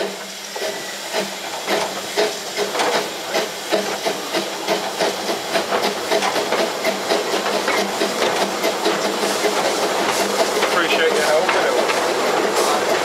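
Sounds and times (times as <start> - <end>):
steam locomotive hiss and beat: 0.0 - 13.0.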